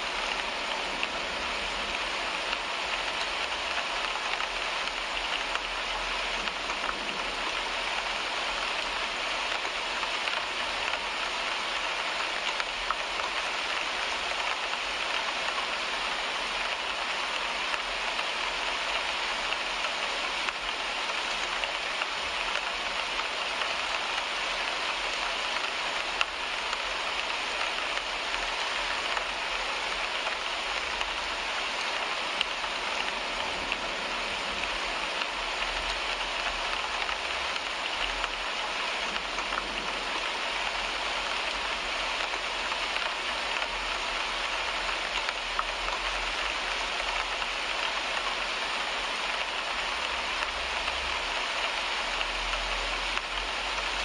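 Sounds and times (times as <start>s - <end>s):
rain on a windshield: 0.0s - 54.0s.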